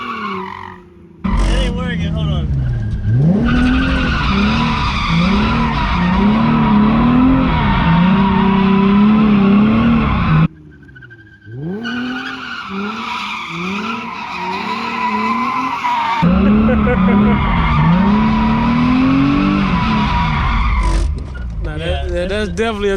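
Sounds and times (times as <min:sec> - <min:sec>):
tyres squealing: 0:00.0 - 0:08.6, 0:09.7 - 0:21.6
car engine revving: 0:00.0 - 0:22.9.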